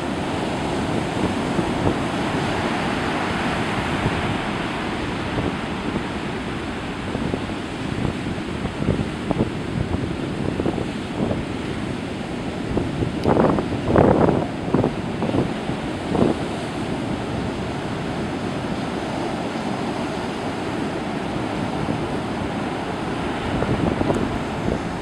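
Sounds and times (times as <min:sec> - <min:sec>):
storm surf breaking: 0:00.0 - 0:25.0
wind buffeting microphone: 0:00.0 - 0:25.0.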